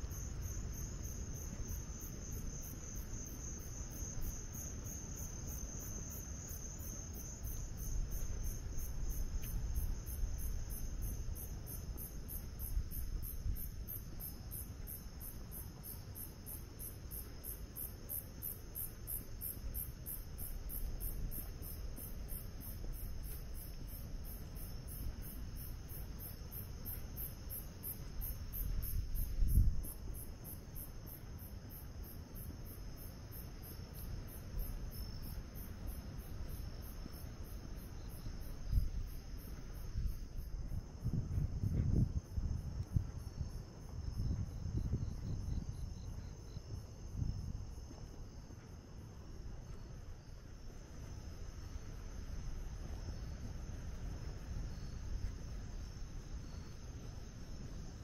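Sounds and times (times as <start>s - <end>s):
continuous insect trill: 0.0s - 58.0s
insects chirping: 0.0s - 58.0s.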